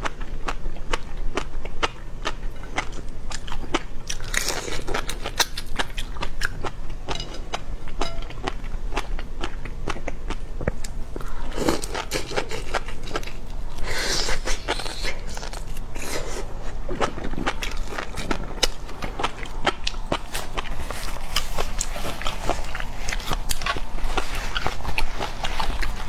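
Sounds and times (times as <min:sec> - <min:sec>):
crunching and chewing: 0:00.0 - 0:26.0.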